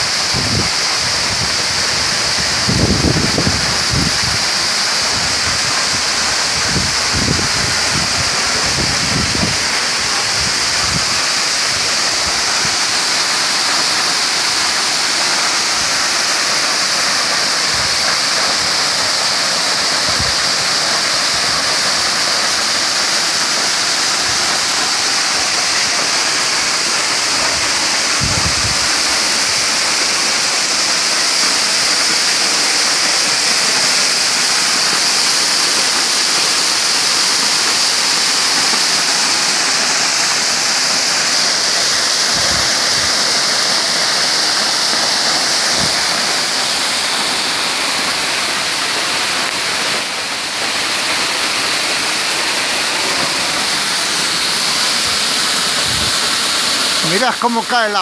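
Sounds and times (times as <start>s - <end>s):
waterfall rushing onto rocks: 0.0s - 58.0s.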